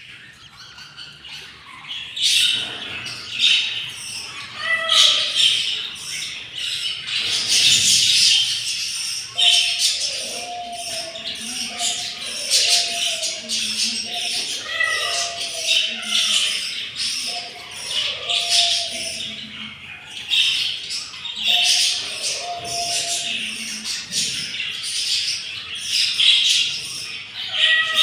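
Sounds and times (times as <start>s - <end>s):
budgerigars chattering and squawking: 0.0s - 28.0s.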